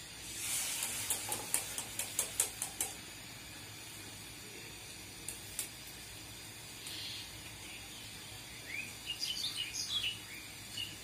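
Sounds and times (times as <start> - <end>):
frying oil hiss: 0.0 - 11.0.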